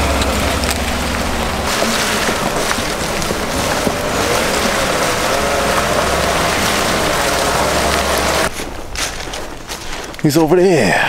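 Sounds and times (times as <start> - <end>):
tyre and wind noise: 0.0 - 11.0.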